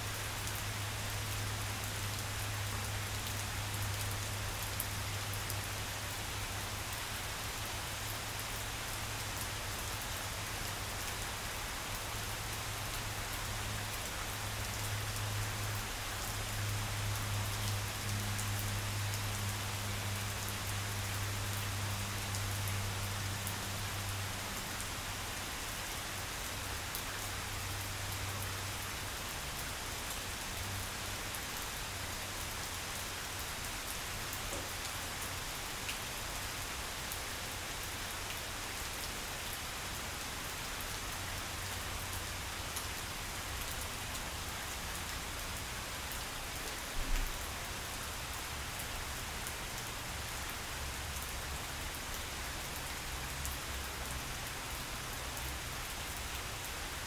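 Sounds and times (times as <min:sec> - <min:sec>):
rain falling on grass: 0:00.0 - 0:57.0.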